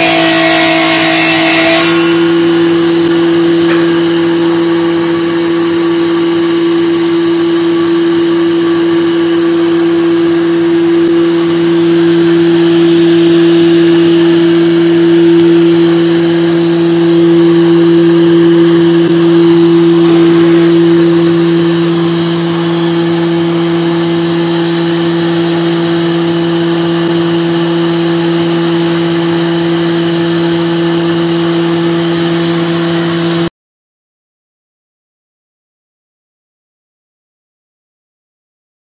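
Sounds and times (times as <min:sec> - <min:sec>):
planer motor humming: 0:00.0 - 0:33.5.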